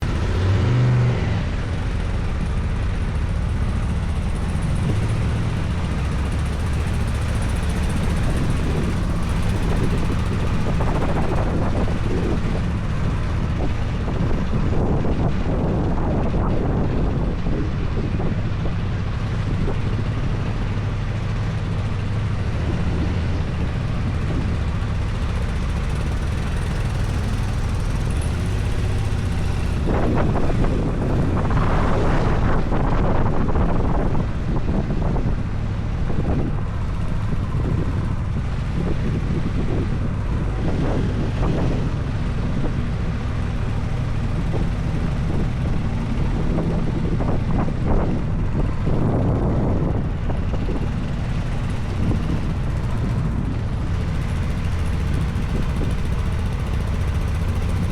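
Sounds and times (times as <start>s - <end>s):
motorcycle engine running: 0.0s - 57.9s
wind on microphone: 0.0s - 57.9s.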